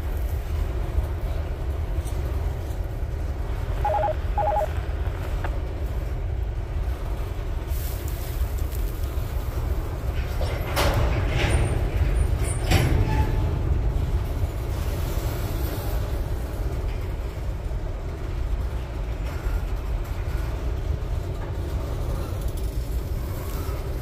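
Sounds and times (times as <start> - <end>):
train wheels rumbling on rail: 0.0 - 3.8, 4.8 - 24.0.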